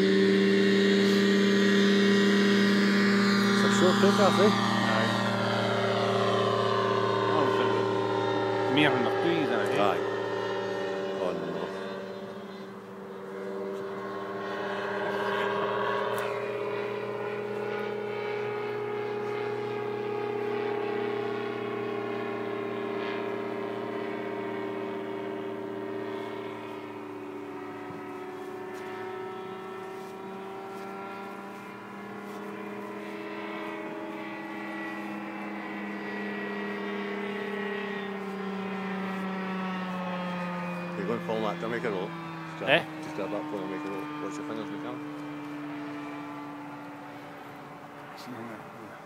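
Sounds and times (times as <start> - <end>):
light aircraft engine drone overhead: 0.0 - 49.0.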